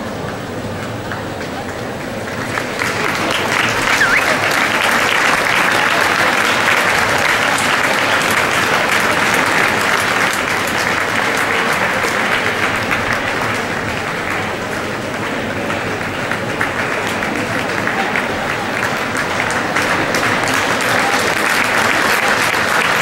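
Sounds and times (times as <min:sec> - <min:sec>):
audience applauding: 0:00.1 - 0:23.0.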